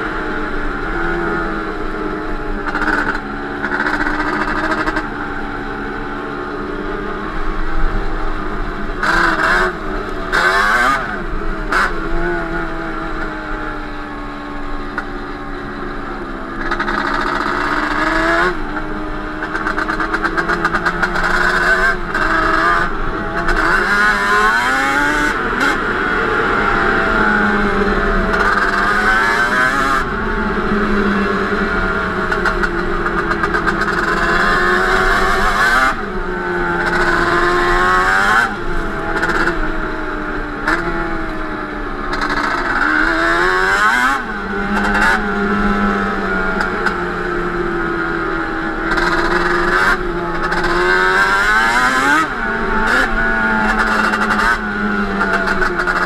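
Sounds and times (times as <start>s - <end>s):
two-stroke engine revving: 0.8s - 5.7s, 8.6s - 13.2s, 16.4s - 56.0s.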